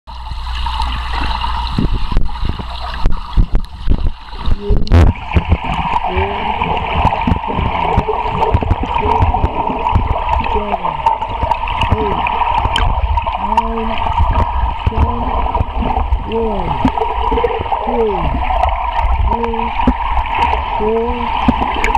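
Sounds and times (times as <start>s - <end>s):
air bubbles rushing: 0.1s - 21.9s
muffled pitched sounds underwater: 0.1s - 21.9s
water churning underwater: 0.1s - 21.9s
short knocks underwater: 1.1s - 21.9s.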